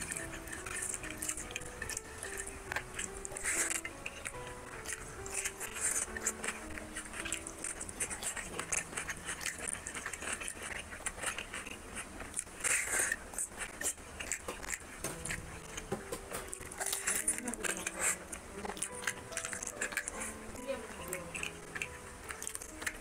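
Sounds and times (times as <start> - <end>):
wet chewing: 0.0 - 23.0.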